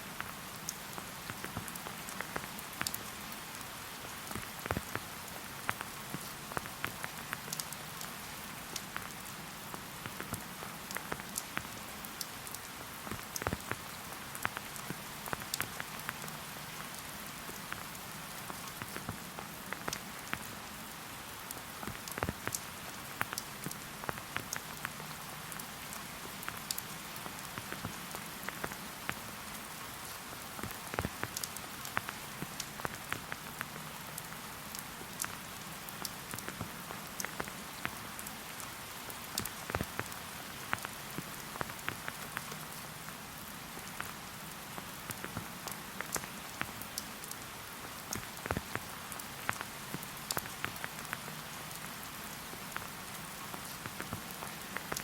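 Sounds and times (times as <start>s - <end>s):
raindrops striking close by: 0.0s - 55.0s
steady rain falling: 0.0s - 55.0s.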